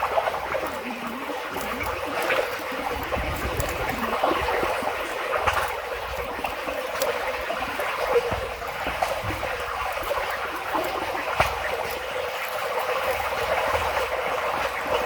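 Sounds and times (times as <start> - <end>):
water running and trickling: 0.0 - 15.0.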